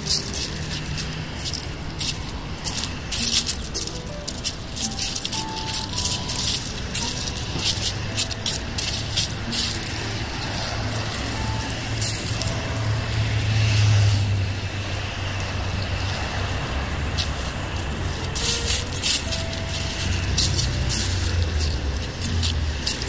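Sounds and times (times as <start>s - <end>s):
footsteps walking: 0.0s - 23.0s
road traffic passing: 0.0s - 23.0s
street hiss: 0.0s - 23.0s
vehicle low rumble: 0.0s - 23.0s.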